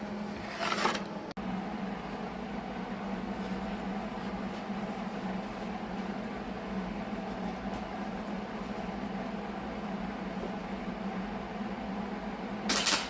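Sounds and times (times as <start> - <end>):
welding machine humming: 0.0 - 13.0.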